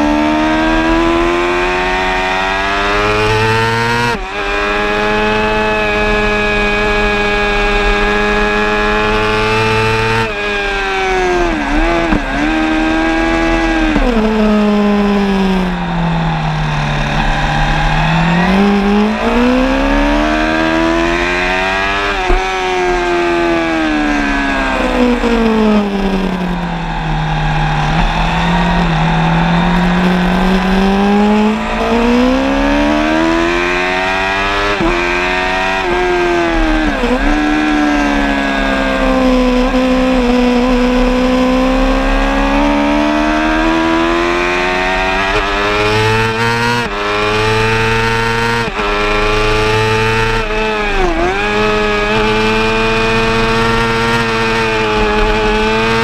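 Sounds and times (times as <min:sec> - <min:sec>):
motorcycle racing engine revving: 0:00.0 - 0:56.0.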